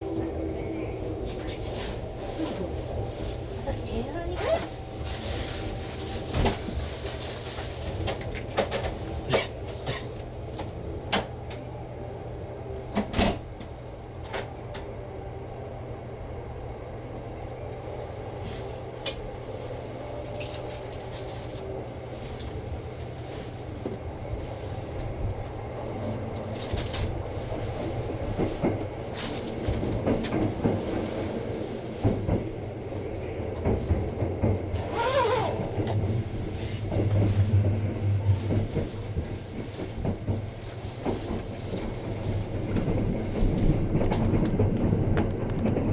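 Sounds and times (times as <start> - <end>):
train knocks and clicks: 0.0 - 15.3, 17.0 - 45.9
train running hum: 0.0 - 45.9.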